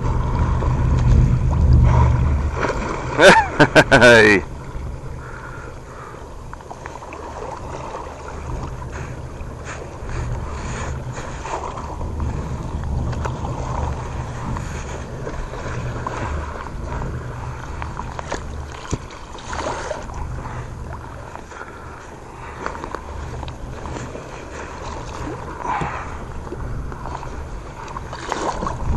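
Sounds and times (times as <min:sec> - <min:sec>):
water sloshing around boat: 0:00.0 - 0:28.9
wind rumbling on microphone: 0:00.0 - 0:28.9.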